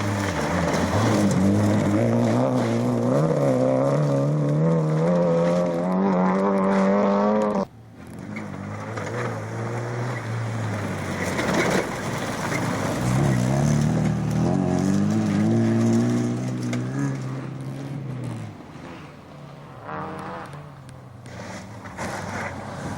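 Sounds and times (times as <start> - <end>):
rally car engine accelerating: 0.0 - 22.9.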